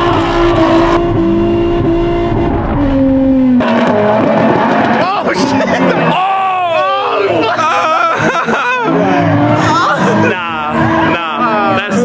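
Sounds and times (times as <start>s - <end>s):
car engine at high revs: 0.0s - 6.2s, 7.4s - 12.0s.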